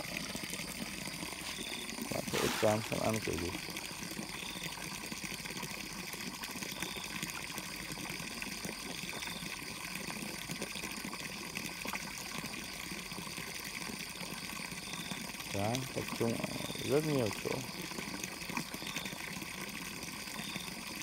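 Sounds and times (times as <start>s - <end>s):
water from hose splashing into pond: 0.0s - 21.0s.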